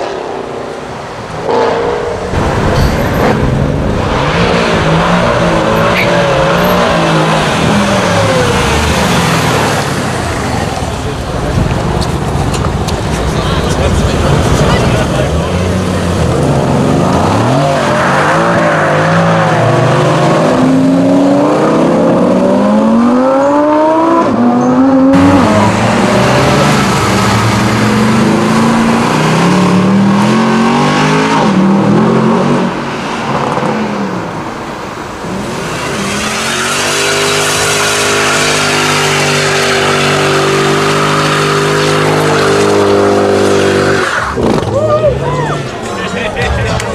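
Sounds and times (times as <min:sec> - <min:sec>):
car engine revving: 0:00.0 - 0:44.8.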